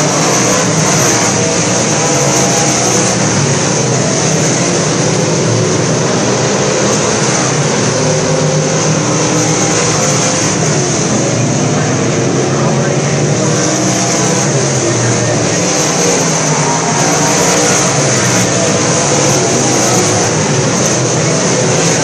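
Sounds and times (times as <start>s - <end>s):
race car engines running hard: 0.0s - 22.0s.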